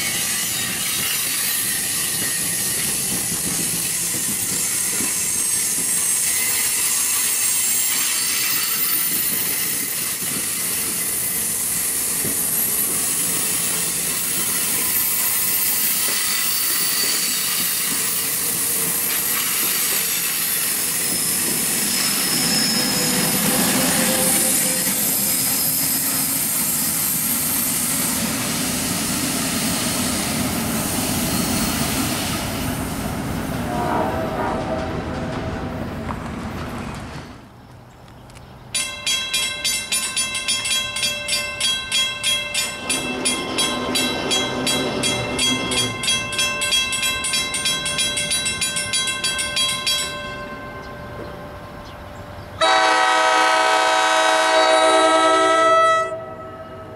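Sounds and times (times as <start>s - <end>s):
wheels squealing on rails: 0.0s - 37.6s, 38.8s - 56.9s
train cars rolling past: 0.0s - 56.9s.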